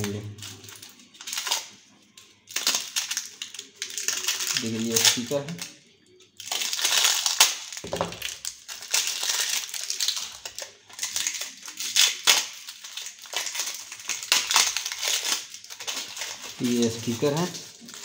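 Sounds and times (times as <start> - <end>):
wrapping crinkling and rustling: 0.0 - 18.0.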